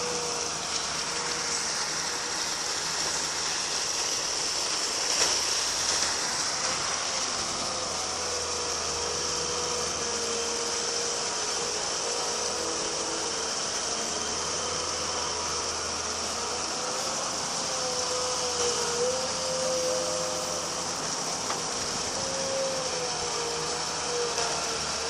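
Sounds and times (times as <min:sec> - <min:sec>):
faint wavering whine: 0:00.0 - 0:25.0
hiss of rushing slurry: 0:00.0 - 0:25.0
mud pump running: 0:00.0 - 0:25.0.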